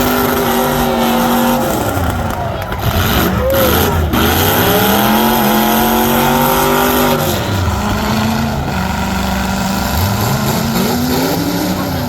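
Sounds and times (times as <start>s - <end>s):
low rumble of engines: 0.0s - 12.0s
truck engine revving: 0.0s - 12.0s.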